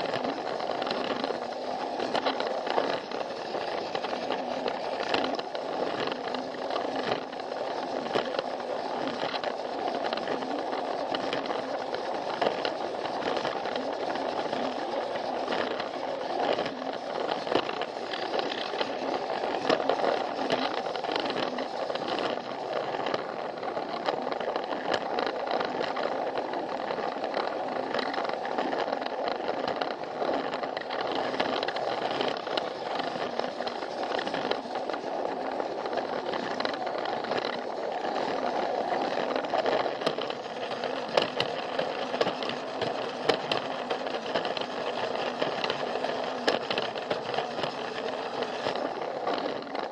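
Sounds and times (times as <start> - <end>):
toy train motor whirring: 0.0 - 49.9
wheels clicking on plastic track: 0.0 - 49.9.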